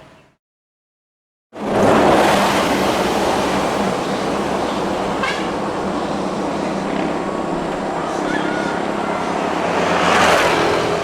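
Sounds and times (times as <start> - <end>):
motorcycle engine running: 1.6 - 11.0
wind and road noise: 1.6 - 11.0.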